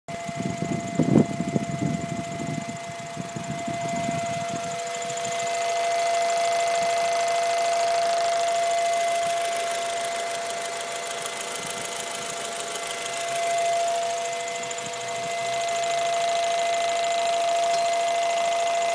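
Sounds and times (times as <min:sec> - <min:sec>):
car engine running: 0:00.1 - 0:18.9
high-pitched hum from engine: 0:00.1 - 0:18.9.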